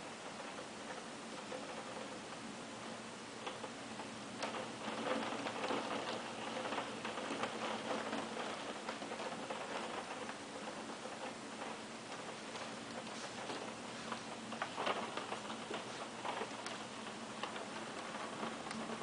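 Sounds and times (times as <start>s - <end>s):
hailstones ticking: 0.0s - 19.0s
rain downpour hiss: 0.0s - 19.0s.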